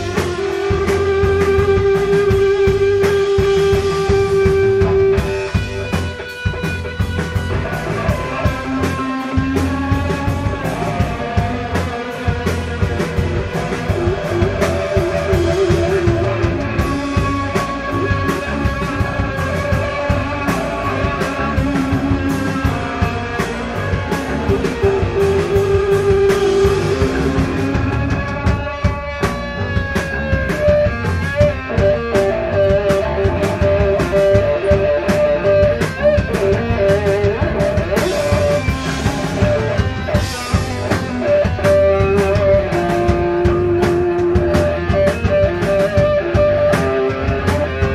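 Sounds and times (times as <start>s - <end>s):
bass guitar: 0.0s - 47.9s
distorted electric guitar: 0.0s - 47.9s
drum kit steady beat: 0.0s - 47.9s.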